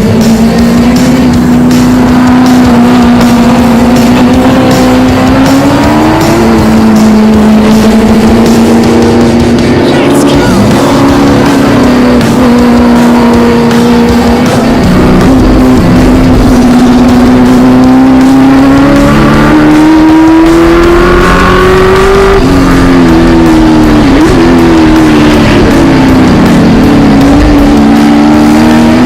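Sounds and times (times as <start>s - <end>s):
racing car engine running hard: 0.0s - 29.0s.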